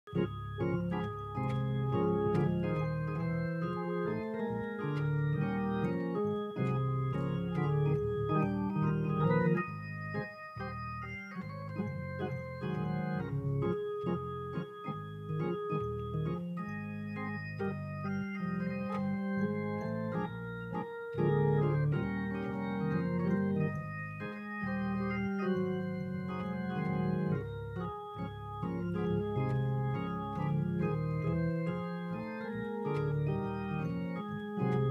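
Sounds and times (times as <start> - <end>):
organ playing slow chords: 0.1 - 34.9.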